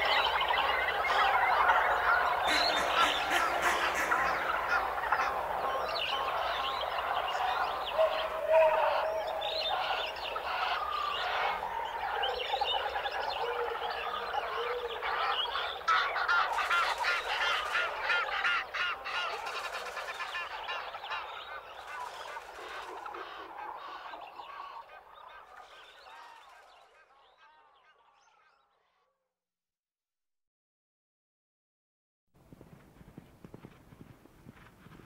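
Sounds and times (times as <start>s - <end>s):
flock of birds calling: 0.0s - 28.8s.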